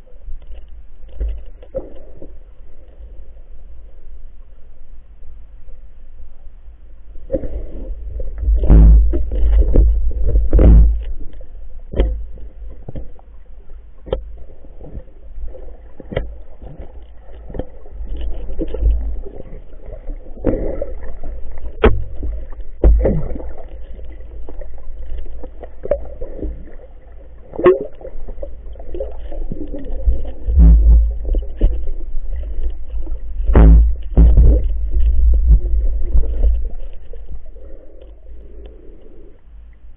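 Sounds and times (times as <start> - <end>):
underwater rumbling surges: 7.1 - 39.9.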